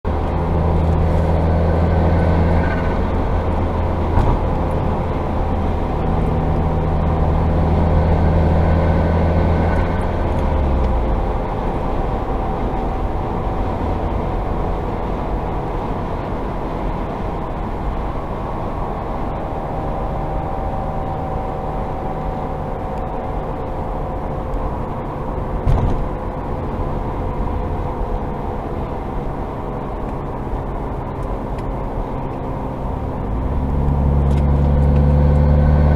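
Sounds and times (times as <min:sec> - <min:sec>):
road noise: 0:00.0 - 0:35.9
droning hum from wheels: 0:00.1 - 0:35.9.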